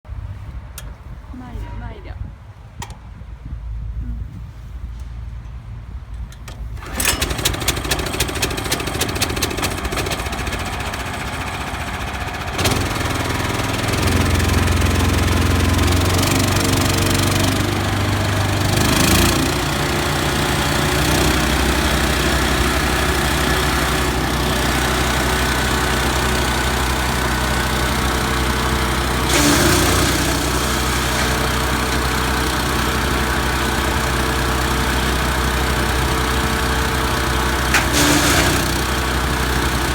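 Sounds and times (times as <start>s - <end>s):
petrol engine starting and running: 4.8s - 39.9s.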